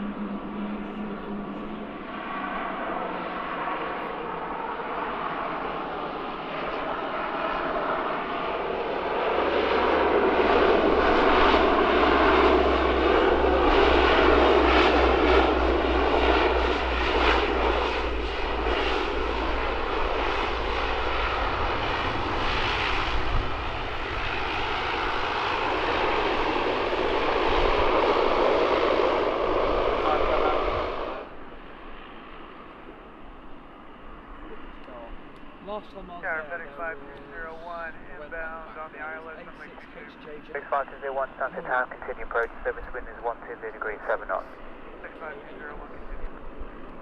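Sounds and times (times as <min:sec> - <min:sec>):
aircraft engines roaring: 0:00.0 - 0:47.0.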